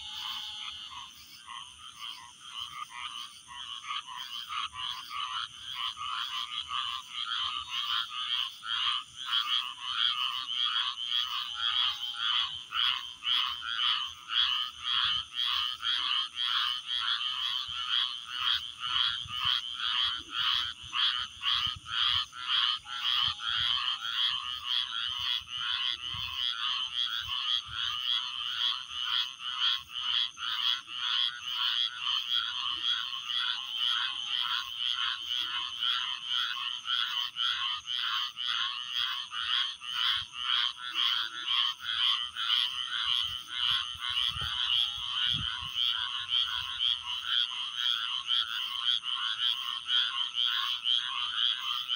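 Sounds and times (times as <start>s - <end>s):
frogs chirping: 0.0s - 51.9s.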